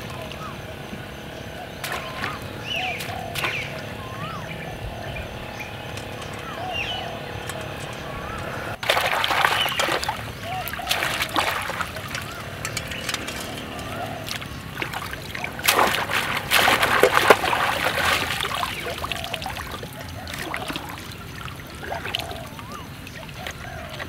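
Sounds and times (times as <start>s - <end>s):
water draining from traps: 0.0s - 24.0s
water splashing and sloshing: 0.0s - 24.0s.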